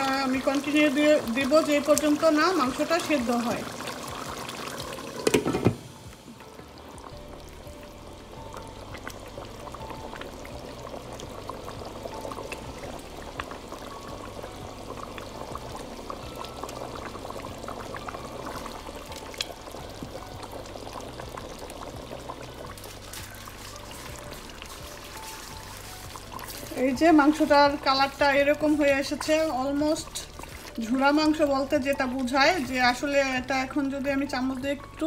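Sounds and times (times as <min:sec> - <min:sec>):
sauce bubbling in a pot: 0:00.0 - 0:35.0.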